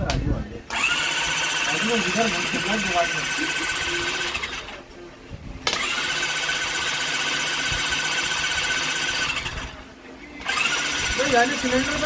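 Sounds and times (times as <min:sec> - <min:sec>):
power tool whining: 0:00.7 - 0:04.8, 0:05.7 - 0:09.8, 0:10.4 - 0:12.0.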